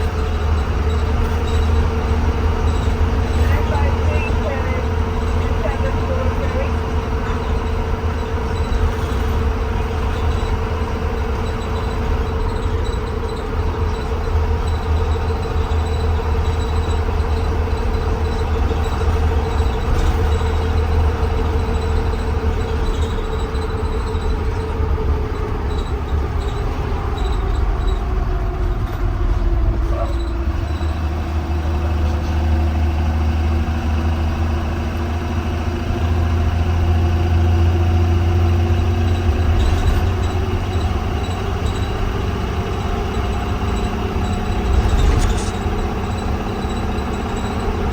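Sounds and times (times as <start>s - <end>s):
bus engine rumble with whine: 0.0s - 47.9s.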